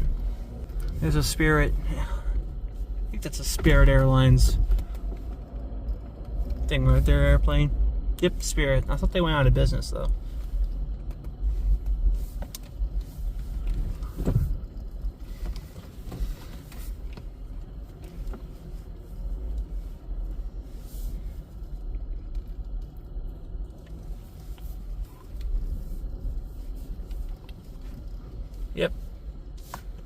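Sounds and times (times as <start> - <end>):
car driving rumble inside cabin: 0.0 - 30.0.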